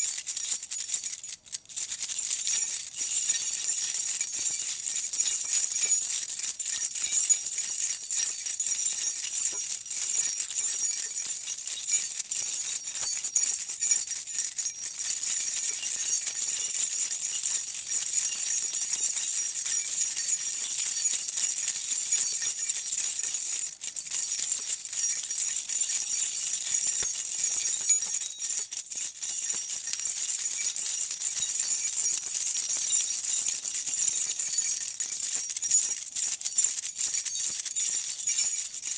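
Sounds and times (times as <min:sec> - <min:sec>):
metal keys jangling: 0:00.0 - 0:07.4, 0:08.2 - 0:21.4, 0:24.6 - 0:38.9.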